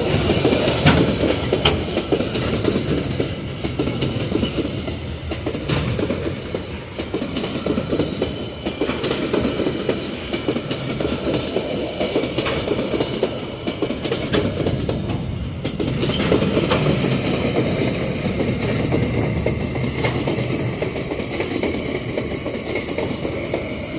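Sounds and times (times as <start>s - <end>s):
rapid clicking of wheels: 0.0s - 23.9s
train wheels rumbling on rails: 0.0s - 23.9s.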